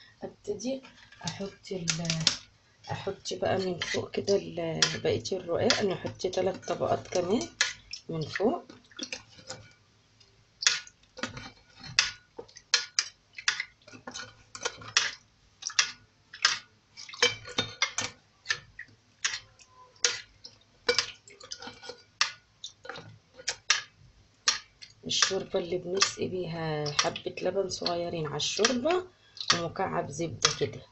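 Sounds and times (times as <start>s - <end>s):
dry dough sheets crackling: 0.0s - 30.9s.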